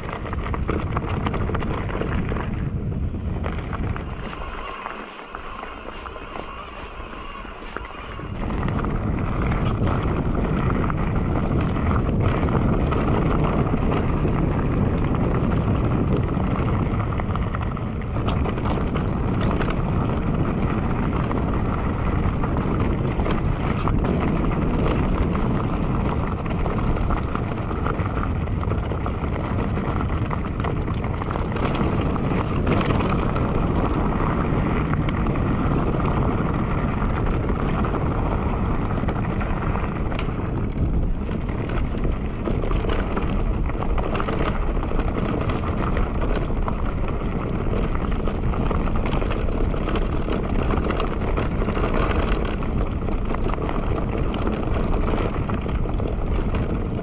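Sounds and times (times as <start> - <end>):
bike tyres rattling over ground: 0.0 - 57.0
wind rumbling on microphone: 0.0 - 57.0.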